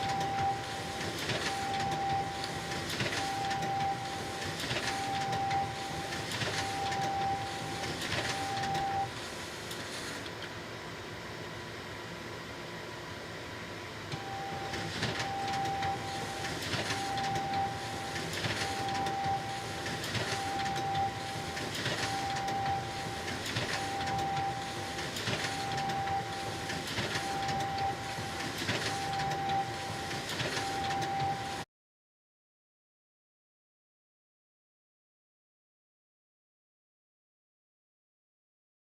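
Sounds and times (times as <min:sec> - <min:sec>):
photocopier running: 0:00.0 - 0:31.6.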